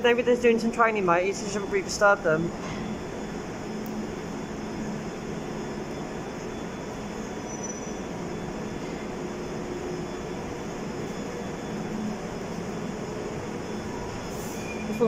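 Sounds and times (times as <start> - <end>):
train high whine: 0.0 - 15.0
train rumbling into platform: 0.0 - 15.0.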